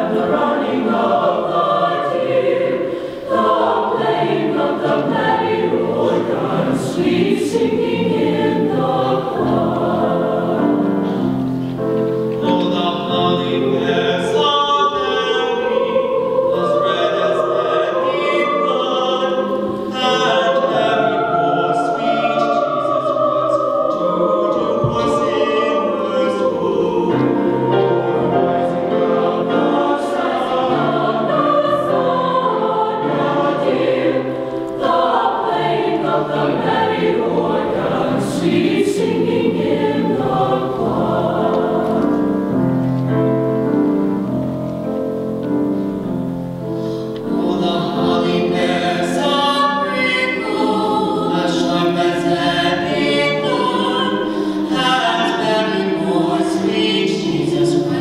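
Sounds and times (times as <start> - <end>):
choir singing in parts: 0.0 - 58.0.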